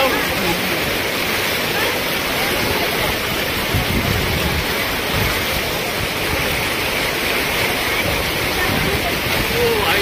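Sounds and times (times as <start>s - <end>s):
river water rushing and splashing: 0.0s - 10.0s.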